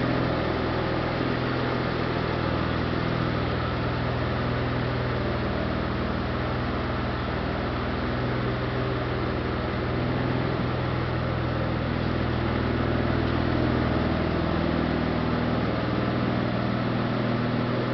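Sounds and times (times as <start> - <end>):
car engine running steadily: 0.0 - 17.9.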